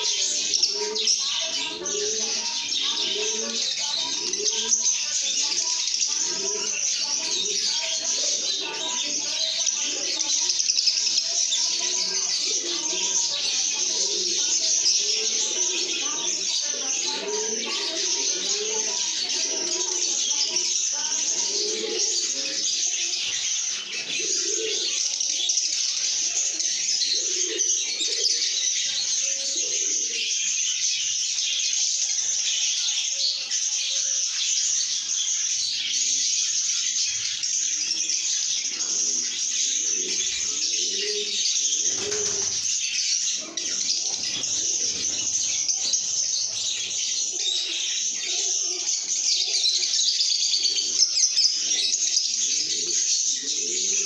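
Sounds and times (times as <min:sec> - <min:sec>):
birds chattering and chirping: 0:00.0 - 0:54.0.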